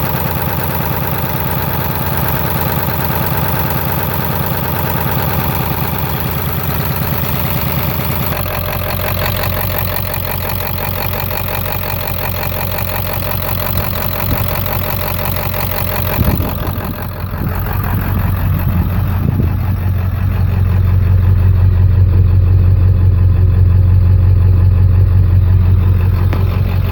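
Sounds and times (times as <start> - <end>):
diesel engine rough idle: 0.0 - 26.9.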